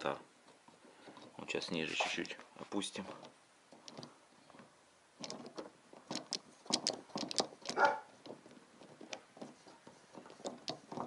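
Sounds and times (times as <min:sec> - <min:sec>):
light metal clicks and knocks: 0:00.5 - 0:11.0.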